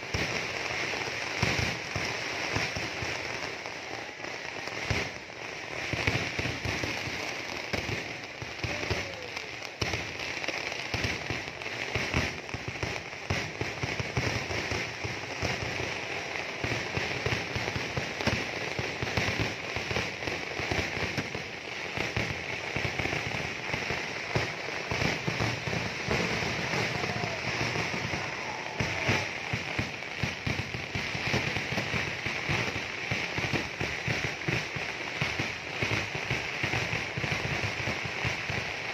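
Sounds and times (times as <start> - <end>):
fireworks crackling and popping: 0.0 - 38.9
sharp fireworks bangs: 0.0 - 38.9.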